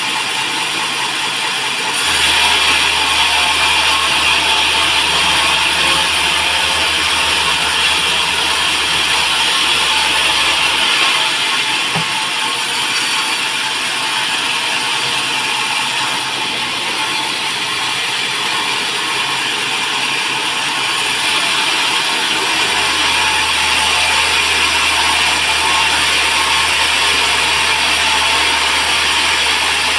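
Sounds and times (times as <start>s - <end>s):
sawmill machinery clattering: 0.0s - 29.9s.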